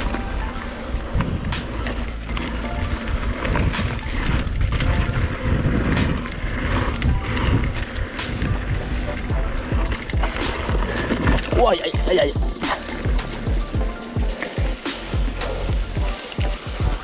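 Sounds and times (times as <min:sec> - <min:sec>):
bike knocking and rattling: 0:00.0 - 0:17.0
bike tyres rumbling on dirt: 0:00.0 - 0:17.0.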